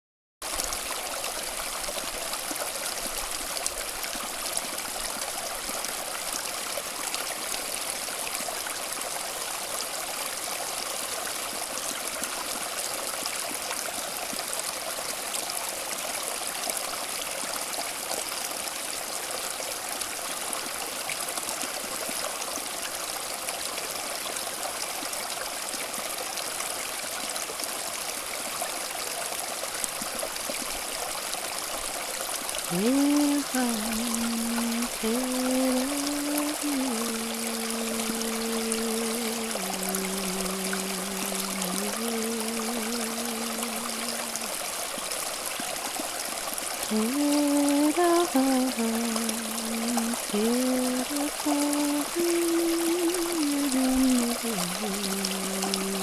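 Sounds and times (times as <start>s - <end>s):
running water rushing: 0.4s - 56.0s.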